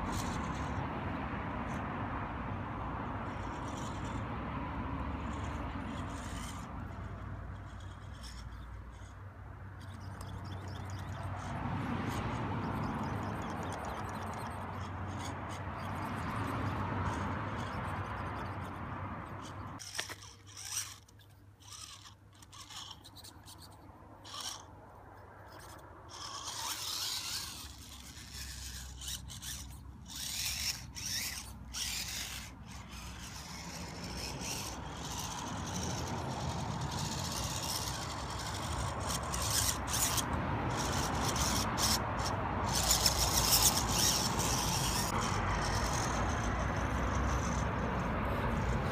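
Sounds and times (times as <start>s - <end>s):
short clicks and scrapes: 0.0s - 0.8s, 3.2s - 4.3s, 5.1s - 48.9s
rubber tyres scraping on rock: 0.0s - 1.9s, 3.0s - 48.9s.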